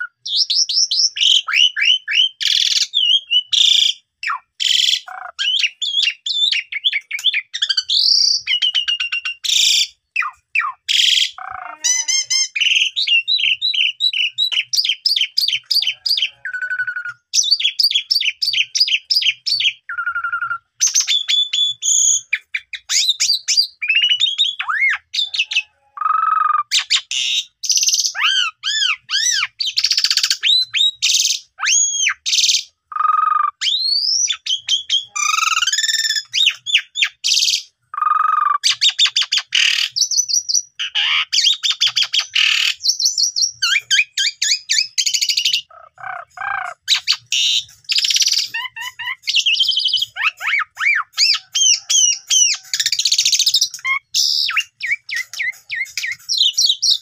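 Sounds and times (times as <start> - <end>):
starling singing varied song: 0.0 - 57.0.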